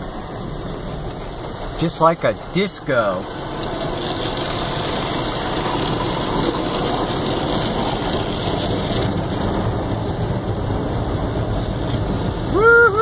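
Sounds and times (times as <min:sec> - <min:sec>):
car wash spraying water: 0:00.0 - 0:13.0.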